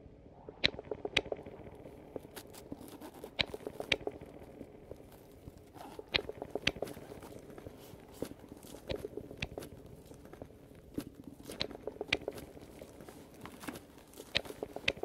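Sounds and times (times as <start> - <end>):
low crackling and crunching: 0.1 - 15.0
crisp clicks: 0.4 - 15.0.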